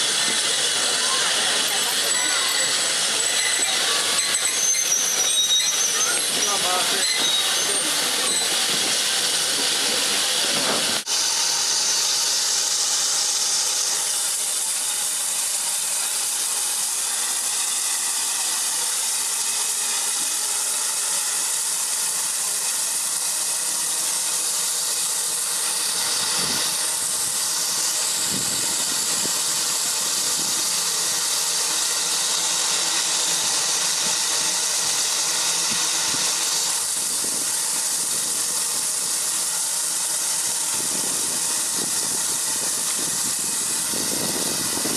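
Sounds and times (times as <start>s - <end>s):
steam hissing: 0.0s - 44.9s.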